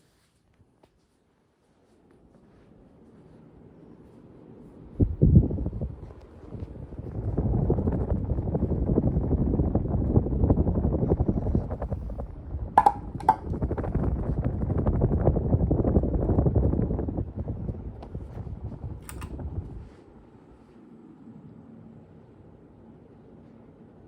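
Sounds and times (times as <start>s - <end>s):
ceiling fan air buffeting microphone: 0.0s - 24.0s.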